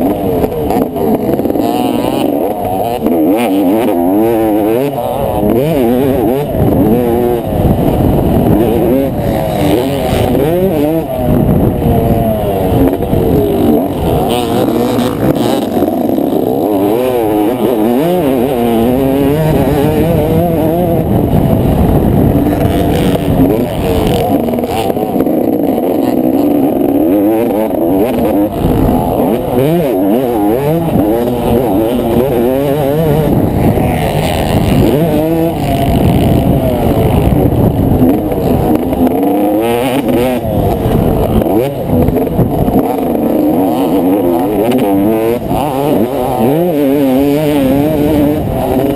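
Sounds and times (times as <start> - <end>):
motocross engine revving: 0.0 - 48.9.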